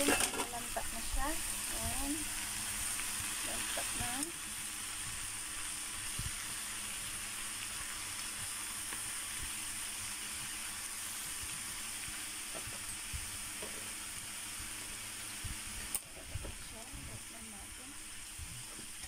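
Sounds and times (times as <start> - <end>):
greens sizzling in a pan: 0.0 - 19.0.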